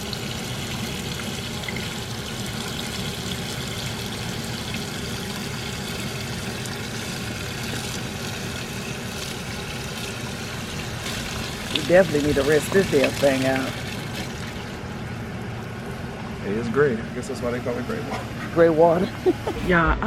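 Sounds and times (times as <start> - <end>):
water draining from tank: 0.0 - 18.9.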